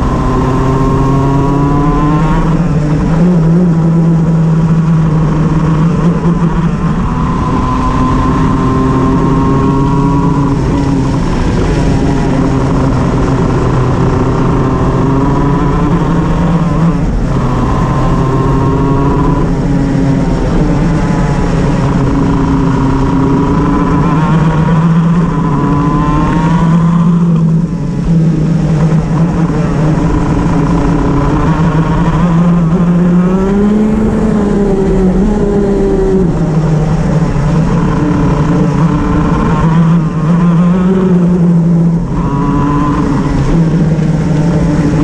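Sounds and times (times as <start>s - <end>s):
kart two-stroke engine revving: 0.0s - 45.0s.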